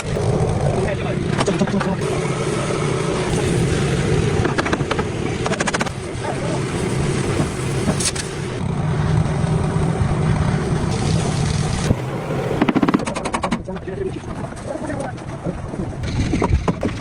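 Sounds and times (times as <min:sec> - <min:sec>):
car engine running: 0:00.0 - 0:15.4.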